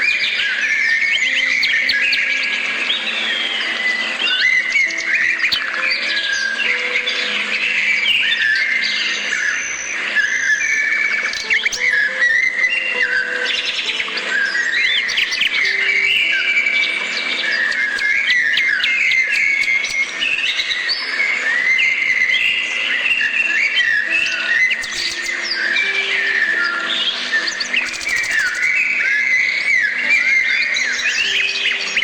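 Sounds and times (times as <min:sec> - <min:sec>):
birds chirping and singing: 0:00.0 - 0:32.0.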